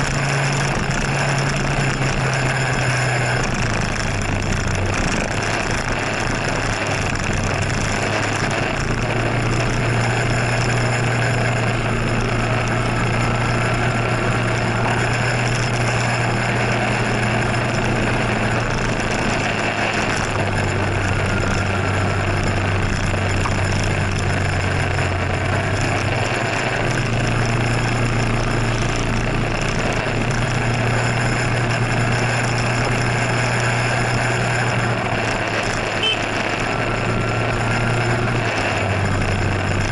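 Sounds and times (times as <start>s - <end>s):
scooter engine droning: 0.0s - 39.9s
wind and road noise: 0.0s - 39.9s.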